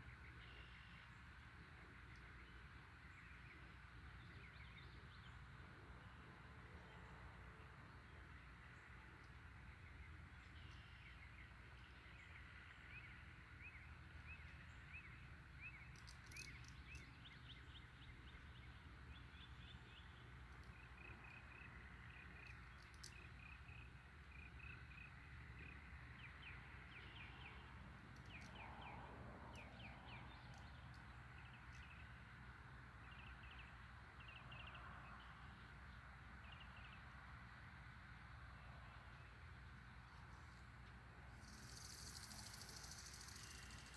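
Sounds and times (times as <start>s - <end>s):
faint birds chirping: 0.0s - 43.9s.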